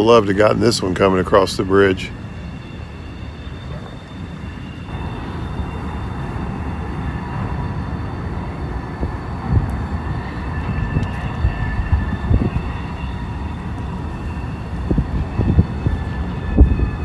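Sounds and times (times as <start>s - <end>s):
high ringing wheel whine: 0.0s - 17.0s
train wheels rumbling on rail: 0.0s - 17.0s.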